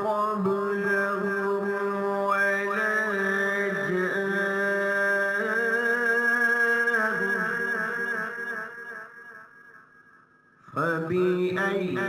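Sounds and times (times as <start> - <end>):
man chanting melodically: 0.0 - 9.2, 10.7 - 12.0.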